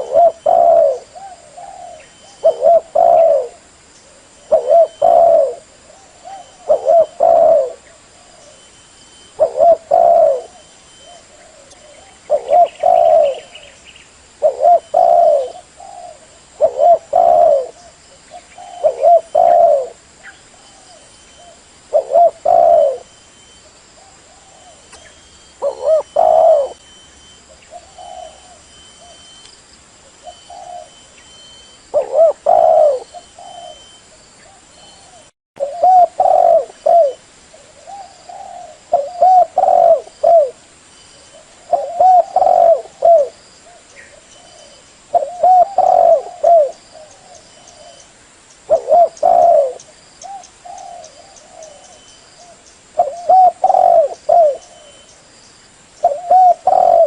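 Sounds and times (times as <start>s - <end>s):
dove cooing: 0.0s - 13.8s, 14.4s - 26.8s, 27.4s - 29.4s, 30.0s - 40.6s, 41.2s - 55.2s, 56.0s - 57.0s.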